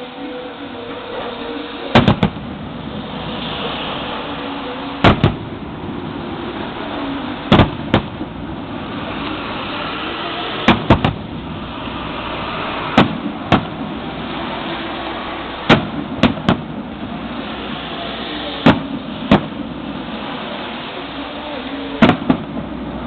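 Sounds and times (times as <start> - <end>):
steady background noise: 0.0 - 23.0
fireworks bangs: 1.3 - 20.8, 21.8 - 23.0.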